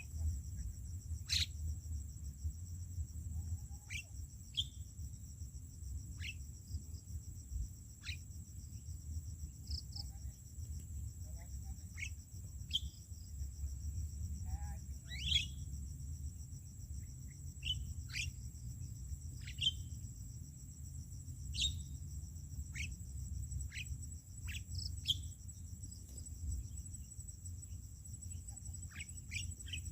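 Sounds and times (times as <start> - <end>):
high-pitched insect buzz: 0.0 - 29.9.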